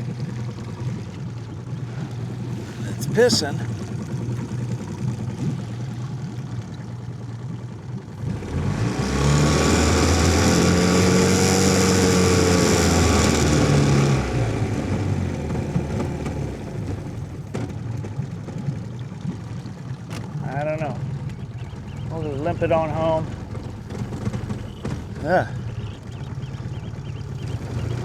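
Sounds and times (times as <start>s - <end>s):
outboard motor revving and misfiring: 0.0s - 28.0s.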